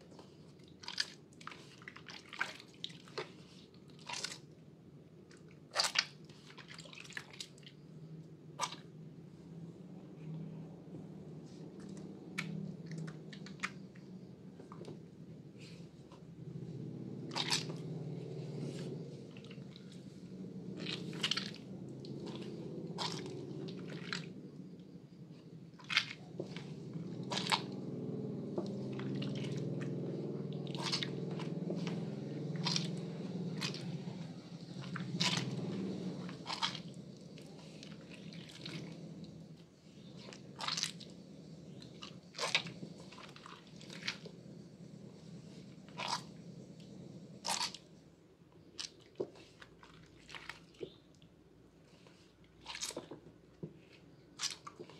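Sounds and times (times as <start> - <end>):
wet soap squelching: 0.0 - 54.9.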